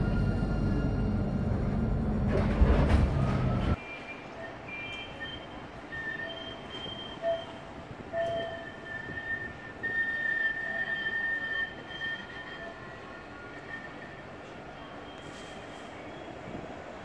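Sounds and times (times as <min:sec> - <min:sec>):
tram wheels squealing on rails: 0:02.9 - 0:17.0.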